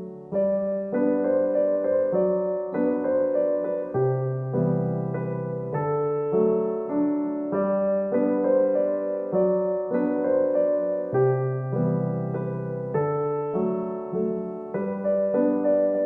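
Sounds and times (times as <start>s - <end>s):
gentle slow piano melody: 0.0s - 16.0s.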